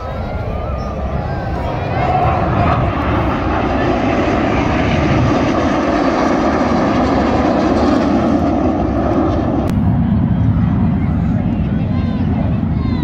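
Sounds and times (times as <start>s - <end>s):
jet engines rushing overhead: 0.0s - 13.0s.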